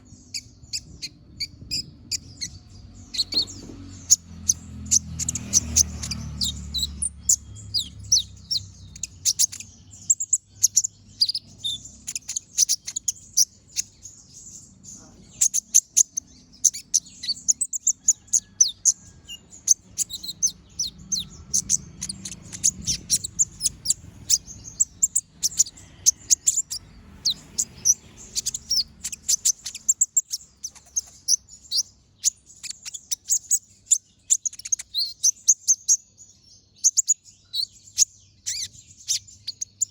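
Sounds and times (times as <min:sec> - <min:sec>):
small bird chirping and trilling: 0:00.0 - 0:39.9.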